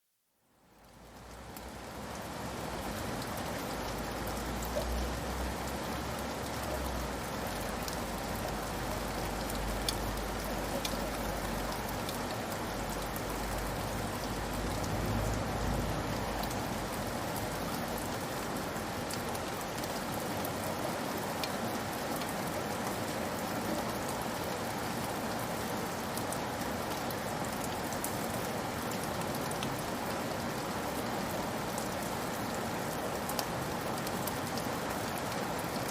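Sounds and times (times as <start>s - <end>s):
rain falling on a roof: 0.4s - 35.9s.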